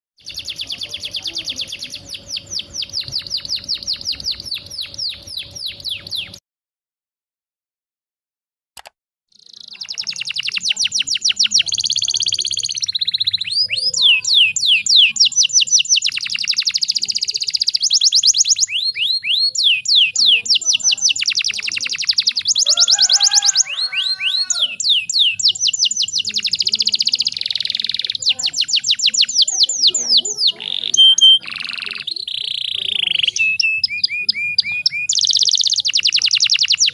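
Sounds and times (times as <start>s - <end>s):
canary singing trills: 0.2s - 6.4s, 9.3s - 36.9s.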